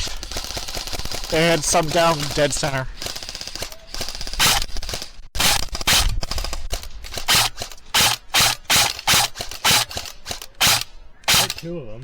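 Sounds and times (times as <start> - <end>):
airsoft gun firing: 0.0 - 11.7.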